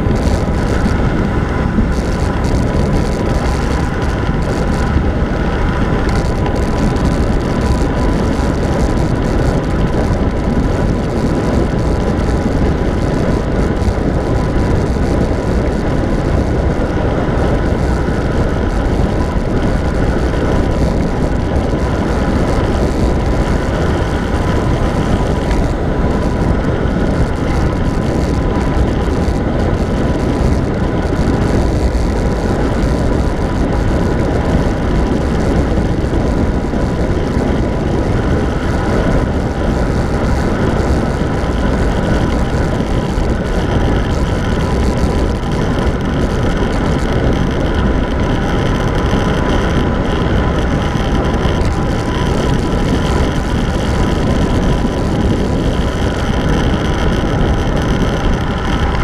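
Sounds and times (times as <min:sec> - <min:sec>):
faint steady whine: 0:00.0 - 0:59.0
wind buffeting microphone: 0:00.0 - 0:59.0.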